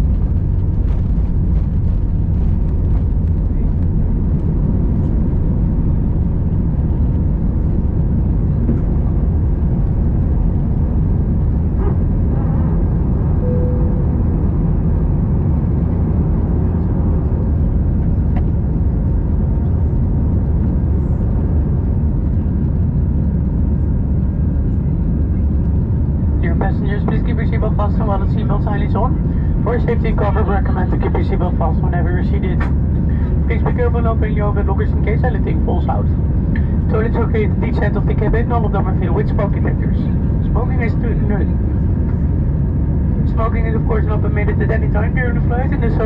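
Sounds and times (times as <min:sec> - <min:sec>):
airplane cabin engine rumble: 0:00.0 - 0:46.0.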